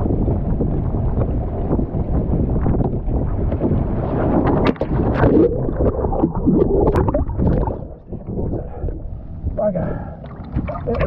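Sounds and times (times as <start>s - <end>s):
water splashes: 0.0s - 8.9s, 9.9s - 11.0s
water rushing past hull: 0.0s - 11.0s
wind buffeting microphone: 0.0s - 11.0s.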